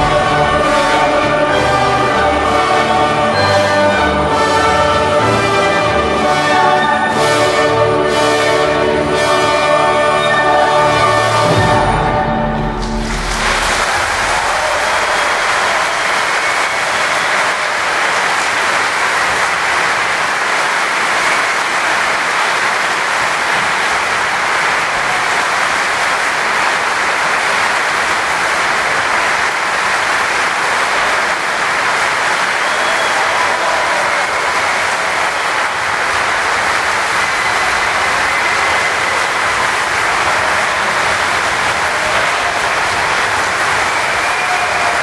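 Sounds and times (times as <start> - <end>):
audience applause: 0.0 - 10.3, 12.8 - 45.0.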